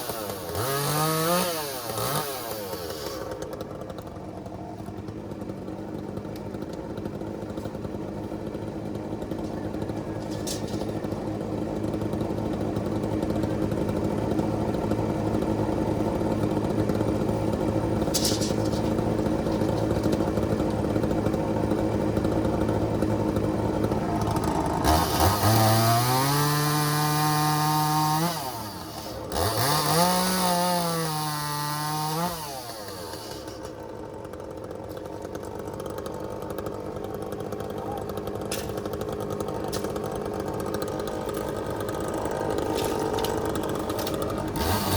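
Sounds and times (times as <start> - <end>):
chainsaw idling and revving: 0.0 - 44.9.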